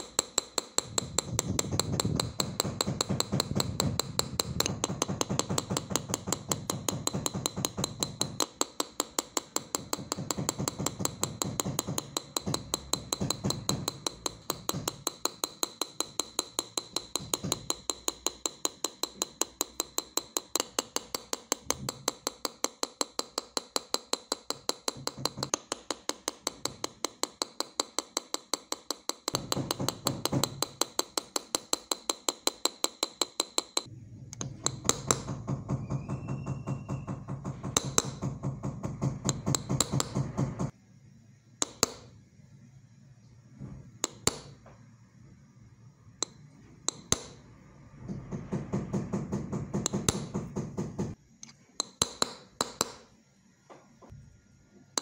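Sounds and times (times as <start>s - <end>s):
hammer tapping metal chisel: 0.0s - 40.8s, 41.6s - 42.1s, 44.0s - 44.7s, 46.2s - 47.6s, 48.2s - 51.2s, 51.8s - 53.2s.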